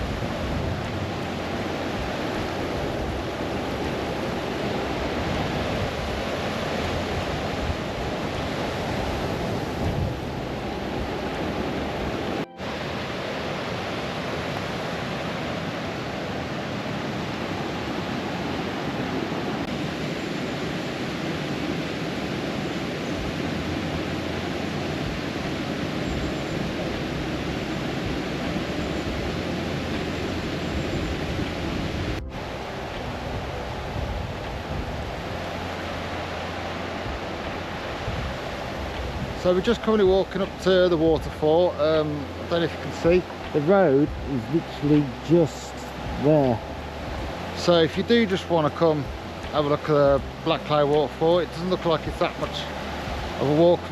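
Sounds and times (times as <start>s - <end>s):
running water rushing: 0.0s - 53.9s.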